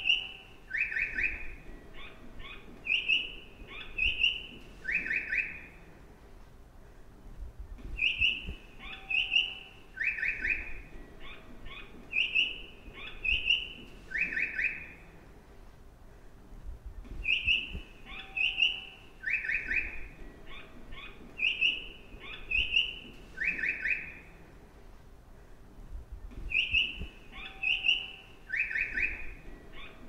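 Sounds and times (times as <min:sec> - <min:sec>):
recorded bird chirps: 0:00.0 - 0:06.0, 0:07.6 - 0:15.2, 0:17.0 - 0:24.6, 0:26.1 - 0:30.0.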